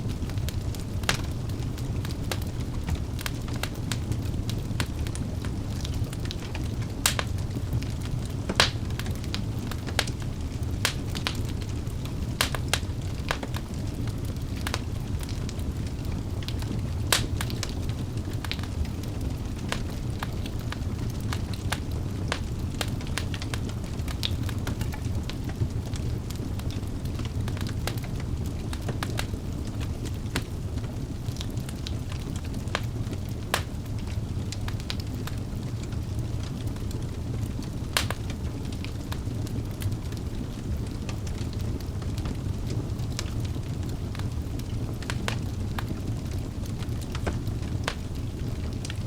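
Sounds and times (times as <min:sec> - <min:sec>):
fire crackling and popping: 0:00.0 - 0:49.0
fire rumbling: 0:00.0 - 0:49.0.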